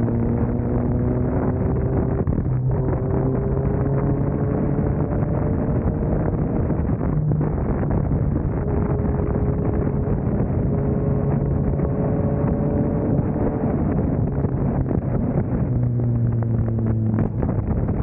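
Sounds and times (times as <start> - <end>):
motorcycle engine cruising: 0.0 - 18.0
wind noise on microphone: 0.0 - 18.0.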